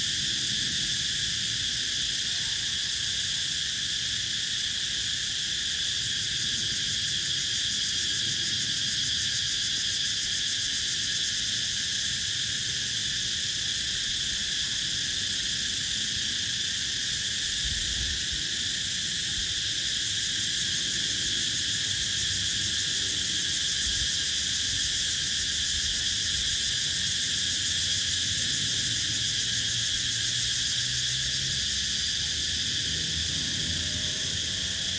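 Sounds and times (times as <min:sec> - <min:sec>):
insects chorus: 0:00.0 - 0:34.9.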